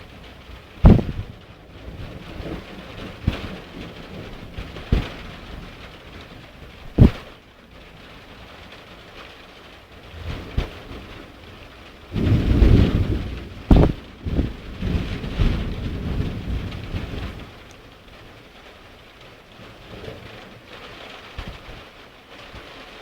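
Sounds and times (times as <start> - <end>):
steady rain: 0.0 - 23.0
thunder rumbling and cracking: 0.0 - 23.0.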